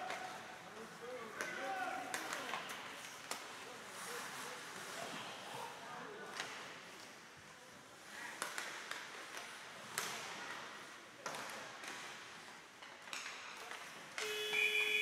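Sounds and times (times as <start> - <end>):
hockey sticks clacking on puck: 0.0 - 5.2, 6.3 - 7.3, 8.0 - 14.6.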